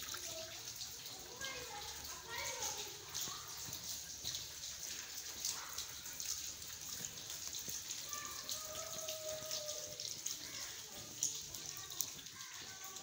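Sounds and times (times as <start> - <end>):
rain on wet concrete: 0.0 - 13.0.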